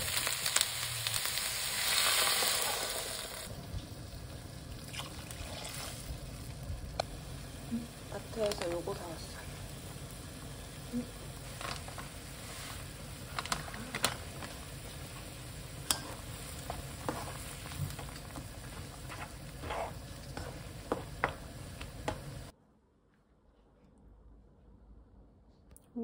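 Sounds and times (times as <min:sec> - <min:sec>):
food sizzling in a frying pan: 0:00.0 - 0:22.5.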